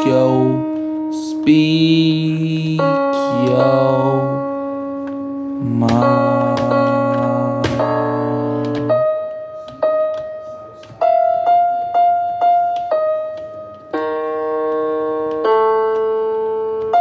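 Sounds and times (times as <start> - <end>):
piano single notes and chords: 0.0 - 17.0.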